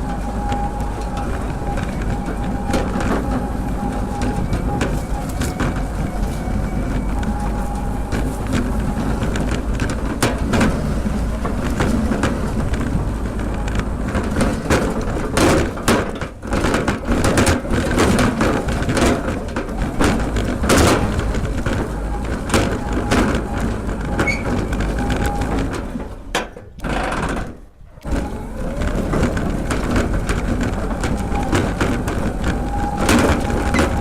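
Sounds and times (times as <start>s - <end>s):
electric lawn tractor rumble: 0.0s - 34.0s
knocks and clatters: 0.0s - 34.0s.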